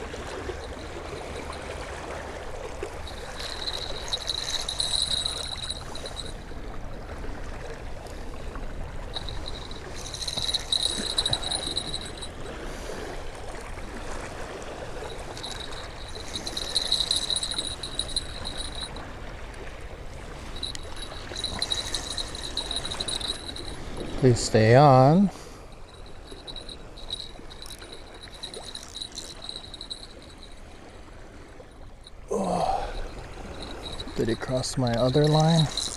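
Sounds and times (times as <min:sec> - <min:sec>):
small waves lapping: 0:00.0 - 0:35.9.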